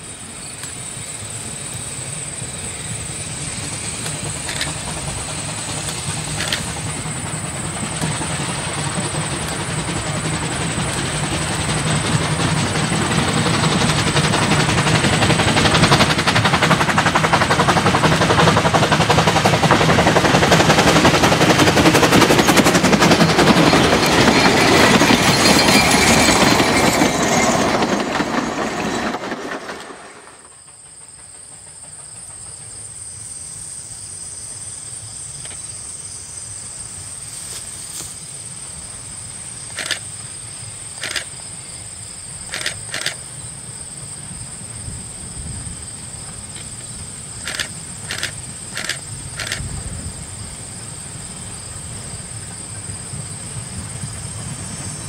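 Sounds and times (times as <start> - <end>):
steam locomotive exhaust beating: 0.0 - 34.6, 42.2 - 55.0.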